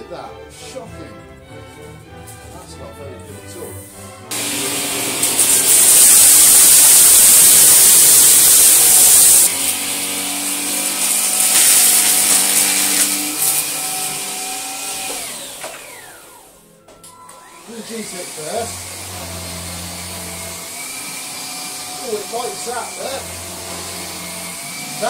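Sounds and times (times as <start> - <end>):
cordless vacuum cleaner: 4.3 - 25.0.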